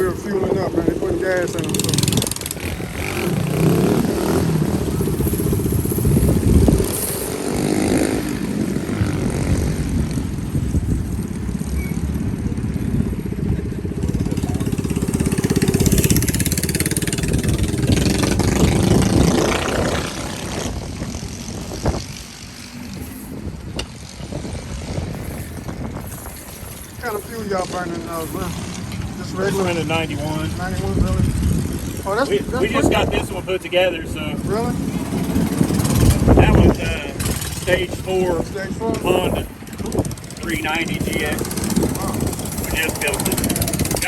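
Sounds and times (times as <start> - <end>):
mini bike engine revving: 0.0 - 44.0.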